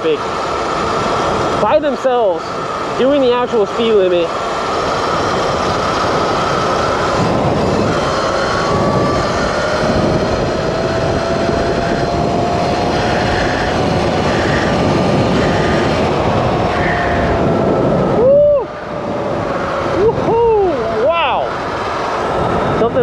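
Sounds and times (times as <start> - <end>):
electric motor whining: 0.0 - 23.0
wind rush on microphone: 0.0 - 23.0.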